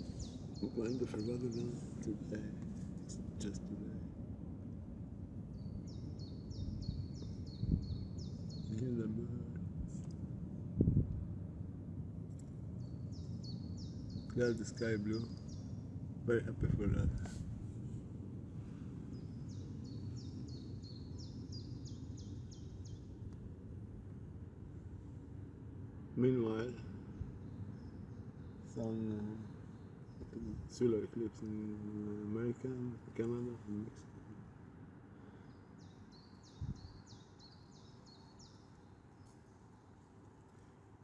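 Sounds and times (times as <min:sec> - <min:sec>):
songbird singing: 0:00.0 - 0:11.3, 0:12.2 - 0:41.0
low outdoor rumble: 0:00.0 - 0:41.0.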